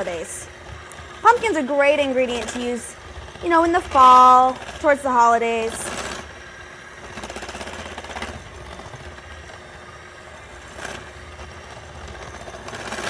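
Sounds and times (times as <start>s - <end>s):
electric hand mixer running: 0.0s - 13.0s.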